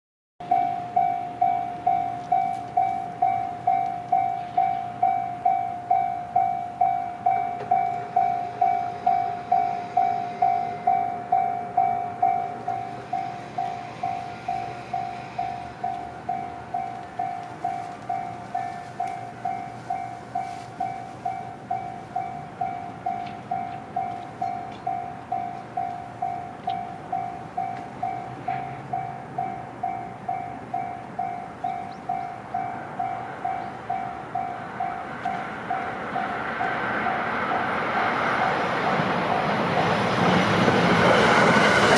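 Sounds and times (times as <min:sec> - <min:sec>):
level crossing warning bell: 0:00.4 - 0:41.9.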